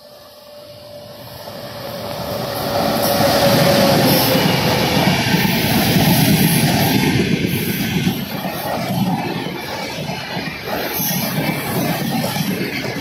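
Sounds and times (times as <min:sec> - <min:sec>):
electric locomotive whine: 0:00.0 - 0:13.0
train wheels on rails: 0:00.0 - 0:13.0.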